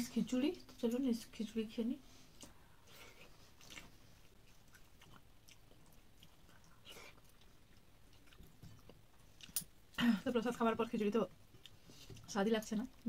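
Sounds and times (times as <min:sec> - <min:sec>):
faint chewing: 0:02.1 - 0:13.0.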